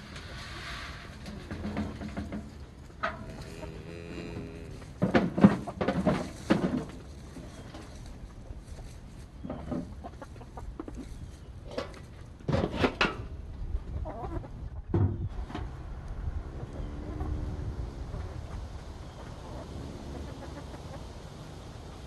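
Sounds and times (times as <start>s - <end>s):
chickens clucking and squawking: 3.2s - 12.6s, 13.5s - 22.0s.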